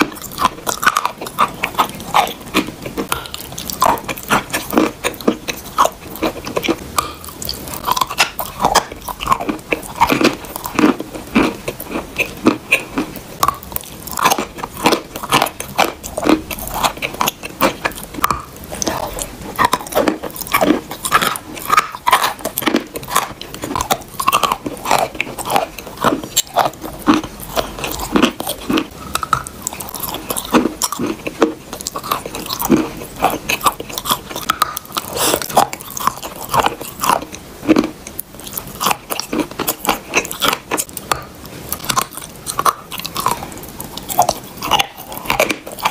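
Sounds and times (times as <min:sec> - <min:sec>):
wet chewing crunches: 0:00.0 - 0:45.9.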